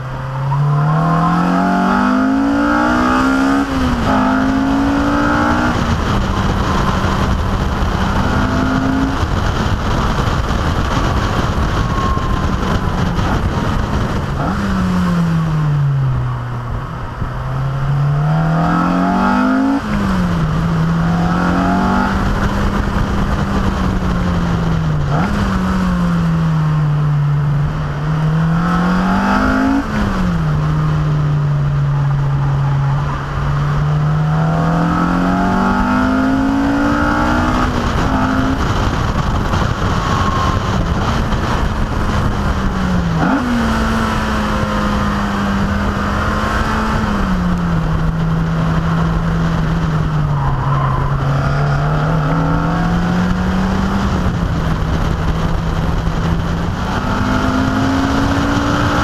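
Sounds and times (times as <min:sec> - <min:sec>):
car engine driven hard: 0:00.0 - 0:59.0
wind noise: 0:00.0 - 0:59.0.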